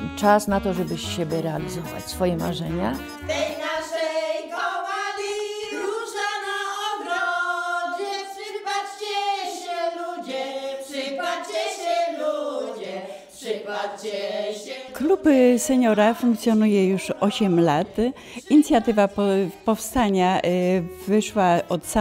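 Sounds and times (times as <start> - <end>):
women singing unaccompanied: 0.2 - 22.0.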